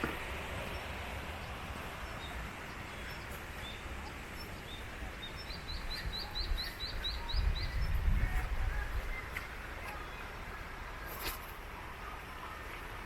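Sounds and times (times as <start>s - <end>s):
background hiss: 0.0s - 13.0s
songbird chirping: 0.0s - 13.0s.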